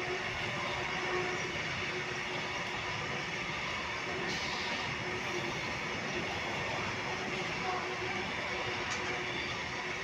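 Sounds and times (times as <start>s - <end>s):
steel wheels rushing on rails: 0.0s - 10.0s.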